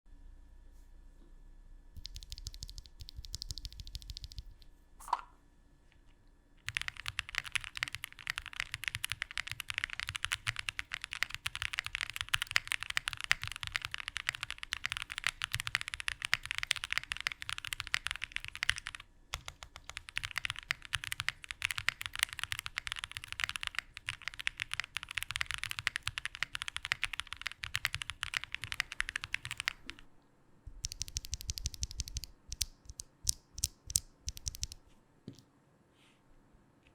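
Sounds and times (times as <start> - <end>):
mechanical keyboard typing: 2.0 - 4.6, 6.6 - 30.1, 30.7 - 34.8.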